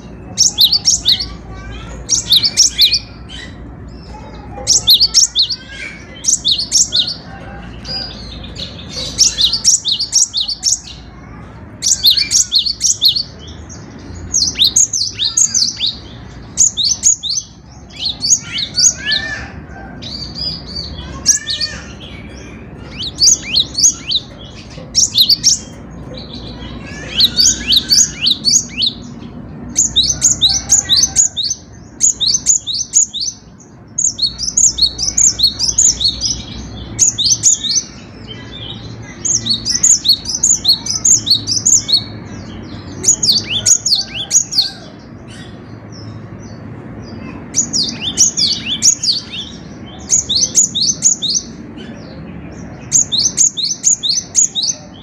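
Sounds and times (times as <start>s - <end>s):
bird singing rapid high chirps: 0.0s - 55.0s.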